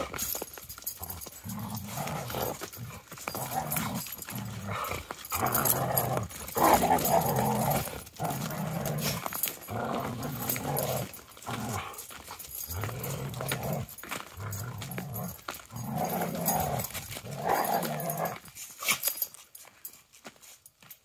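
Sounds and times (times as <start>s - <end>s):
dogs growling: 0.8s - 18.5s.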